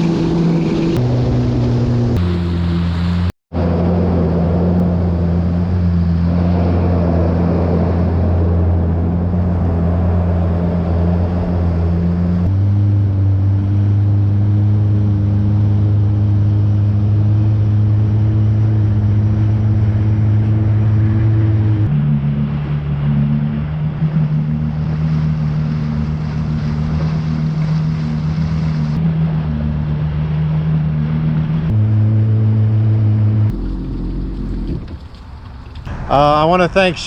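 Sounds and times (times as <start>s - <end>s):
rushing water: 0.0s - 37.0s
watercraft engine drone: 0.0s - 37.0s.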